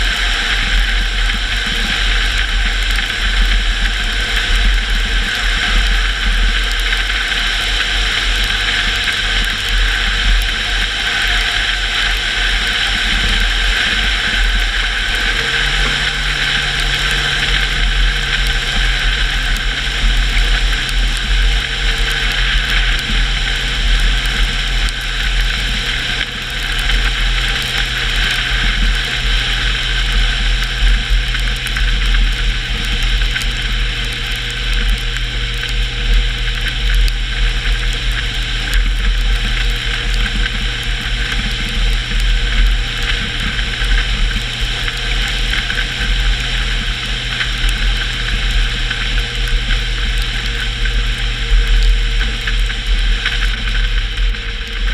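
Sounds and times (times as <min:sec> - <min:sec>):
car engine running: 0:00.0 - 0:54.9
road and tyre noise: 0:00.0 - 0:54.9.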